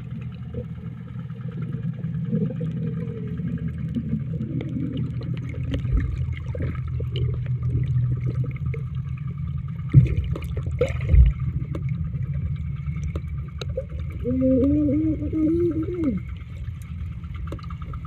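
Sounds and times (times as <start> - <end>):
steady low rumble: 0.0 - 18.0
water gurgling underwater: 0.0 - 18.0.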